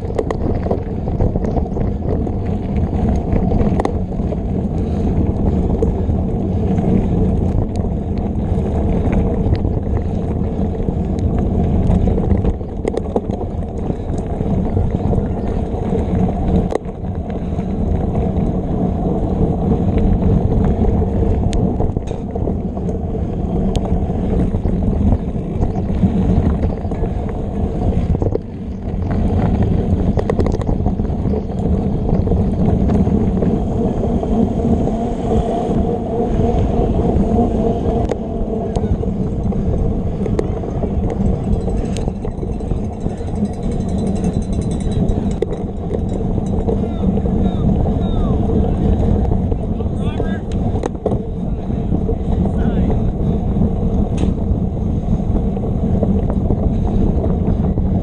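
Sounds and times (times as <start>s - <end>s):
bike tyres on dirt trail: 0.0s - 58.0s
wind on microphone: 0.0s - 58.0s.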